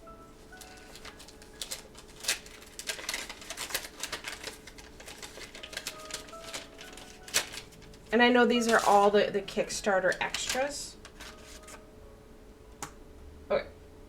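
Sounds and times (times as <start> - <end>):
wrapping crinkling and clicking: 0.5 - 11.8.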